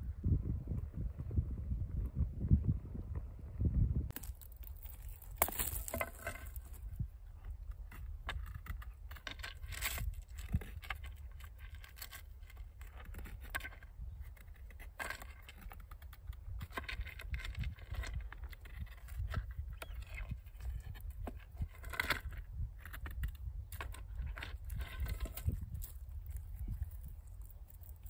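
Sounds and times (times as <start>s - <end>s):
rustling and scraping of gear: 4.1s - 28.0s.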